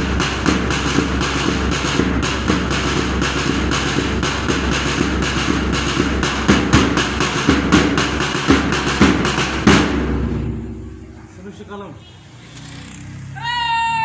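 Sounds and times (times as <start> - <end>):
loud rumbling noise: 0.0 - 11.7
marching drumbeats: 0.0 - 11.8.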